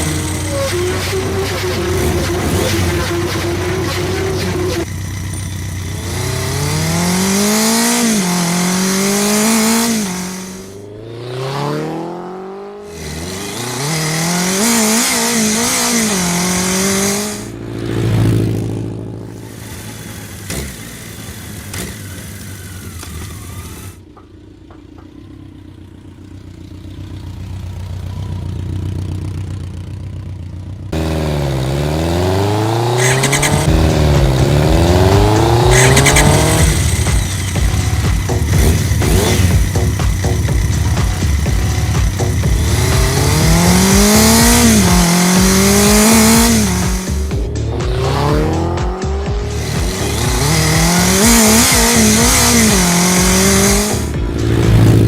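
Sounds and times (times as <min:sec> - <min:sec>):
racing motorcycle engines revving: 0:00.0 - 0:55.0.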